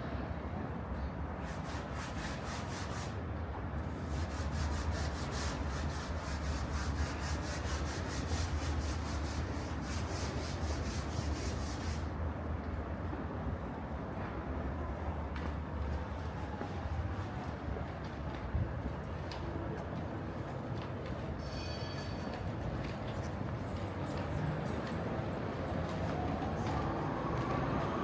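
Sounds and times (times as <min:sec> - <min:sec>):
low city rumble: 0:00.0 - 0:28.0.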